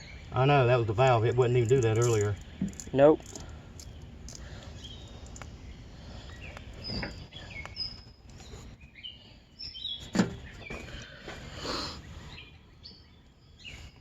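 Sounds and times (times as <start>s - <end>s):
low background rumble: 0.0s - 13.5s
small birds chirping: 0.0s - 14.0s.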